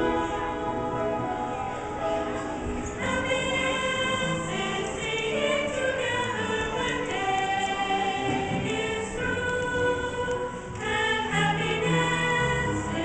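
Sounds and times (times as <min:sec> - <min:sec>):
group singing in chorus: 0:00.0 - 0:13.0.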